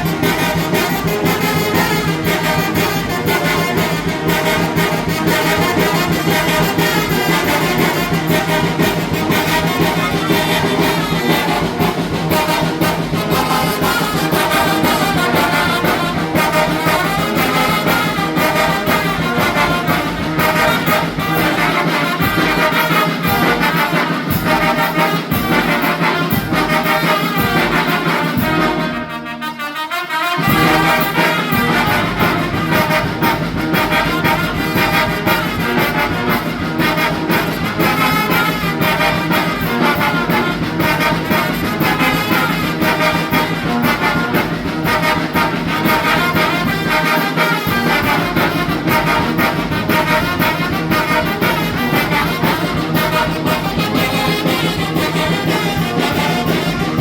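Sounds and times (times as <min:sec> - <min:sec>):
brass band with trumpets and trombones: 0:00.0 - 0:57.0.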